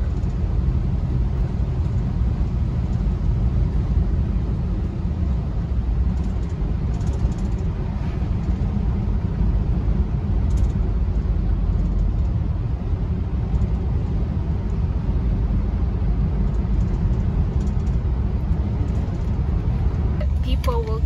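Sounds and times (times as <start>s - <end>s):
car driving on paved road: 0.0s - 21.0s.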